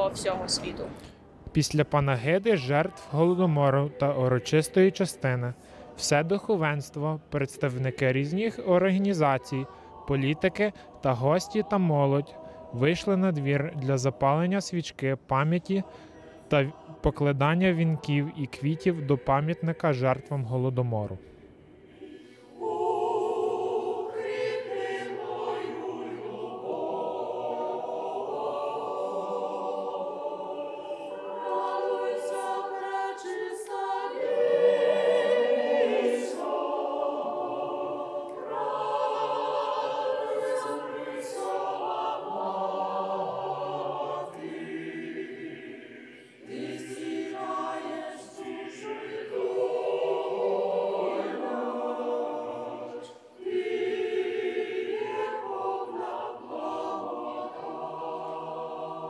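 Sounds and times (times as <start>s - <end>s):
choir singing a hymn: 1.7s - 59.0s.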